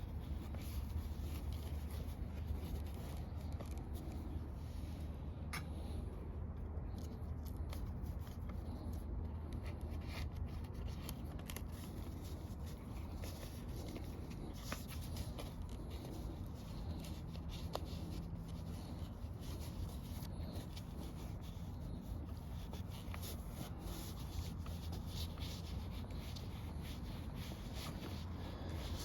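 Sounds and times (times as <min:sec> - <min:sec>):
hands rustling fabric: 0:00.0 - 0:29.0
steady low hum: 0:00.0 - 0:29.0.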